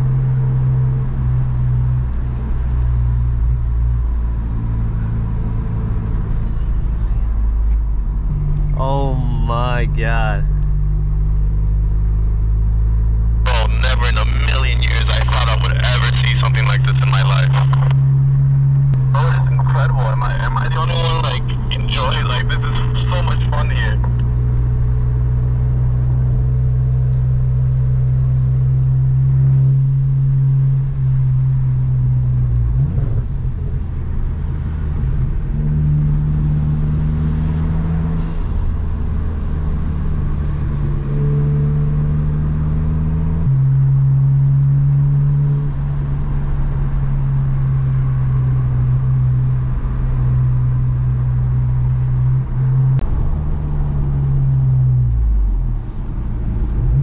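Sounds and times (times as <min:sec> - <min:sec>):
car engine under way: 0:00.0 - 0:57.0
road noise: 0:00.0 - 0:57.0.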